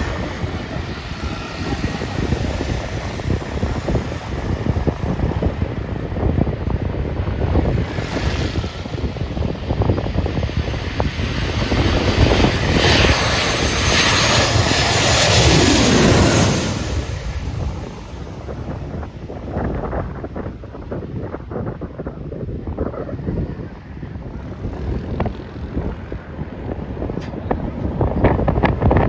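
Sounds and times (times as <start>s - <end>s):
airliner engines passing overhead: 0.0s - 29.0s.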